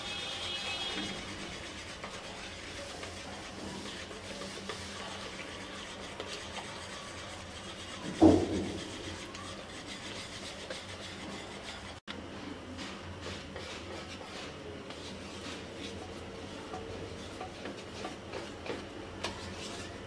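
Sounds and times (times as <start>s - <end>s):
whisk stirring batter in bowl: 0.0s - 12.1s, 12.8s - 20.0s.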